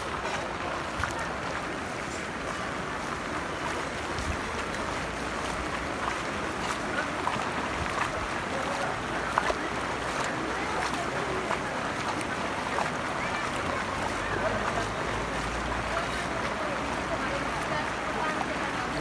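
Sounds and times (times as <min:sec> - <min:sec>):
faint distant voices: 0:00.0 - 0:19.0
river water rushing: 0:00.0 - 0:19.0.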